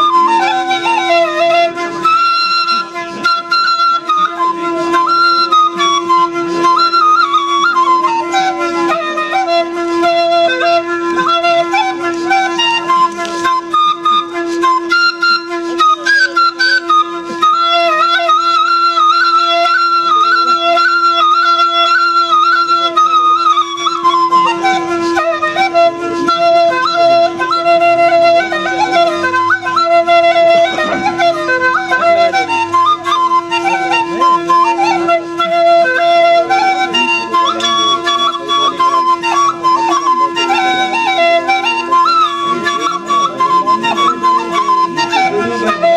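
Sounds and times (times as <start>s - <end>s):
paired flutes drone and melody: 0.0s - 45.9s.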